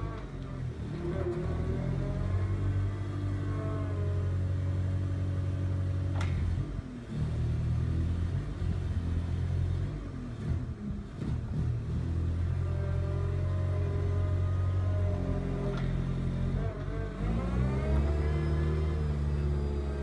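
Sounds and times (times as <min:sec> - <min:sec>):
forklift engine hum: 0:00.0 - 0:20.0.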